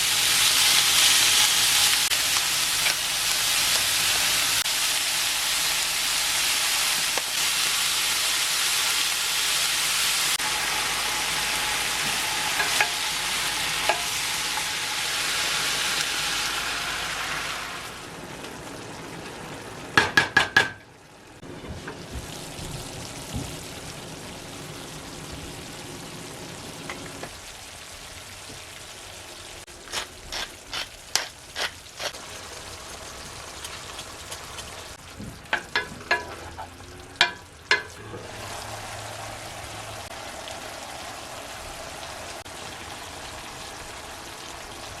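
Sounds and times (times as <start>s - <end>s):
food sizzling in a pan: 0.0s - 20.3s, 21.4s - 45.0s.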